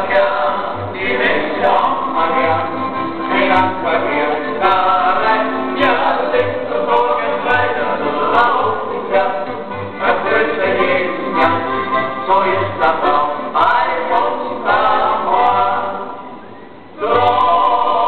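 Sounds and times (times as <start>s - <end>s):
men singing in harmony: 0.0s - 16.2s, 17.0s - 18.0s.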